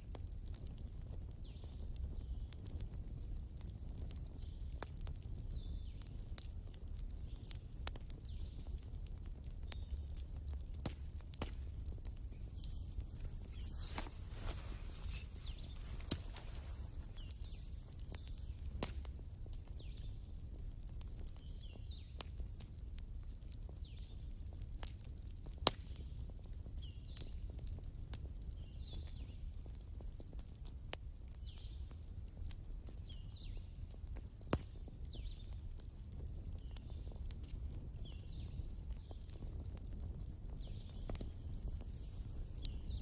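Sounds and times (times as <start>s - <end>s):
wood fire crackling: 0.0s - 43.0s
sharp pops of fire: 3.9s - 43.0s.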